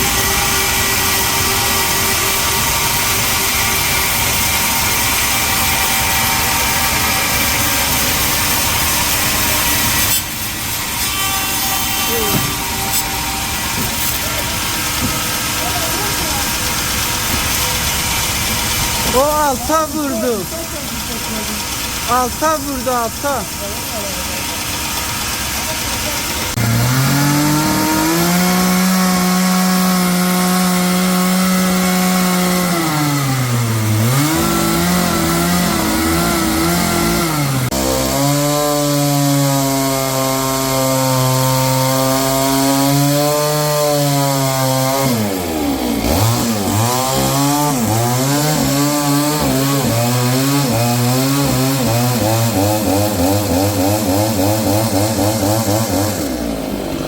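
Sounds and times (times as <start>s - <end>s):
motor-driven saw cutting wood: 0.0s - 57.0s.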